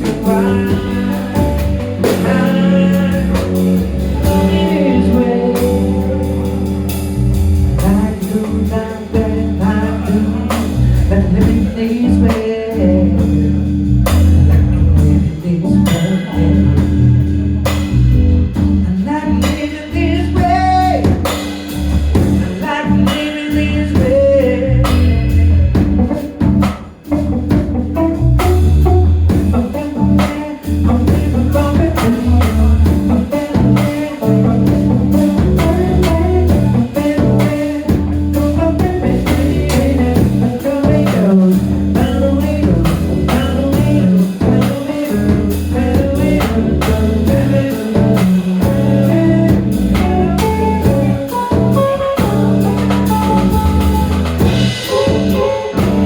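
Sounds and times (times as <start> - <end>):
drum kit beat: 0.0 - 56.0
guitar: 0.0 - 56.0
keyboard: 0.0 - 56.0.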